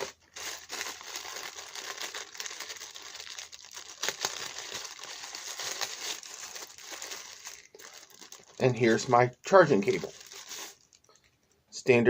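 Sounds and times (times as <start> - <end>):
packaging crinkling and rustling: 0.0 - 11.4.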